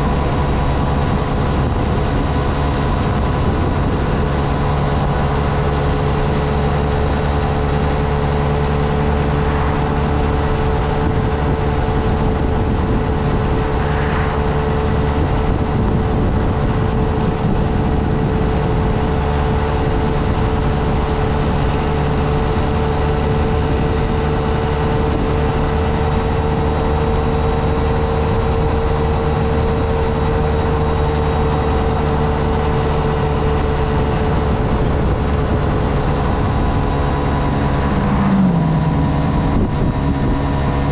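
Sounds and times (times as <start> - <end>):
motorcycle engine running: 0.0 - 40.9
rush of air and road noise: 0.0 - 40.9.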